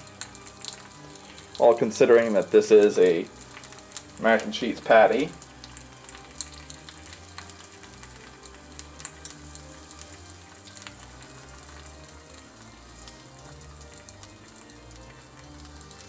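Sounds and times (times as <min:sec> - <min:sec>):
background music: 0:00.0 - 0:16.0
crackles and pops: 0:00.0 - 0:16.0
patty frying in a pan: 0:00.0 - 0:16.0.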